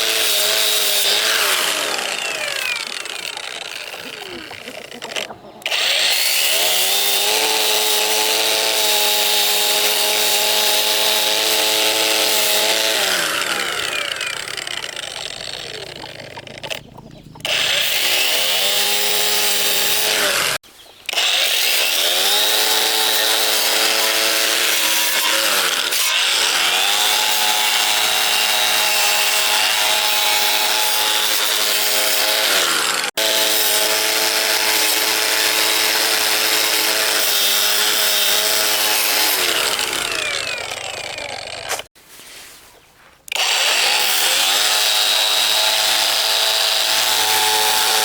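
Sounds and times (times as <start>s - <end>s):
power tool motor under load: 0.0s - 41.9s.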